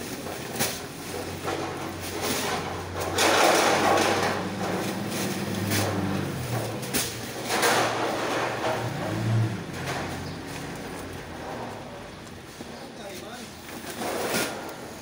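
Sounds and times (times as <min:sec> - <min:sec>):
sharp knocks and clatter: 0:00.0 - 0:12.9
engine humming low: 0:00.0 - 0:13.0
rough scraping: 0:00.2 - 0:14.7.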